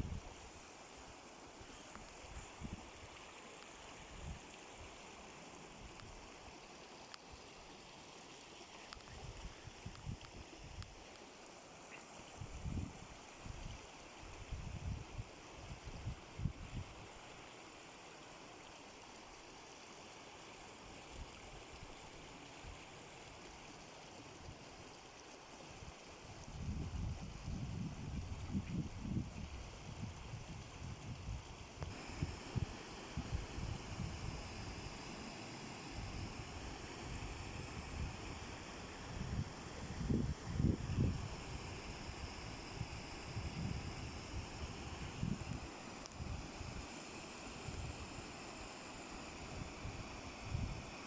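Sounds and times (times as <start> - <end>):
outdoor rushing hiss: 0.0 - 25.0, 25.7 - 51.0.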